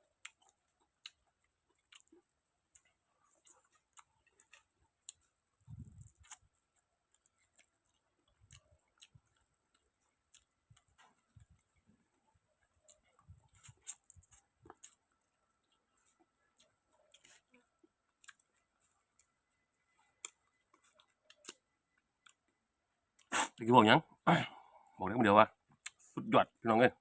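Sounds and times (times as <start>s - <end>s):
chewing mouth clicks and smacks: 0.1s - 22.6s.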